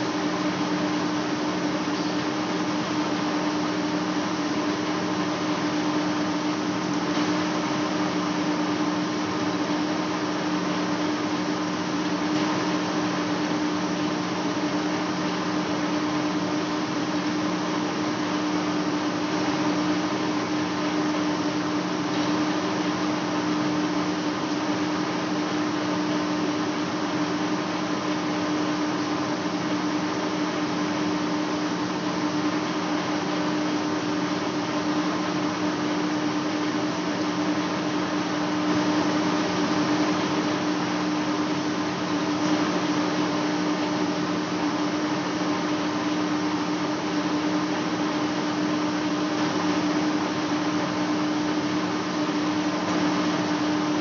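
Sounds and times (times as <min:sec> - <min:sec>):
lathe running with machine hum: 0:00.0 - 0:54.0.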